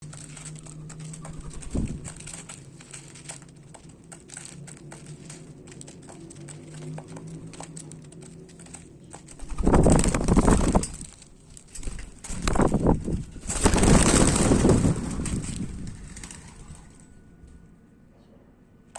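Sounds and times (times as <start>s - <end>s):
birds pecking at seed: 0.0s - 17.2s.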